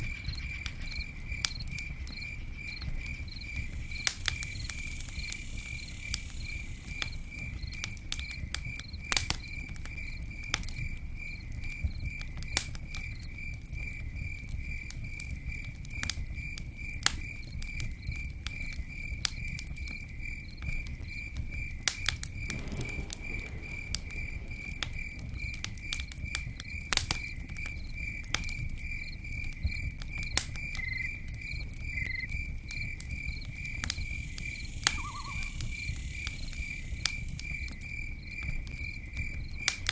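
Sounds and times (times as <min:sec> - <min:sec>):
crickets chirping: 0:00.0 - 0:39.8
burning wood popping: 0:00.0 - 0:39.9
campfire crackling: 0:00.0 - 0:39.9.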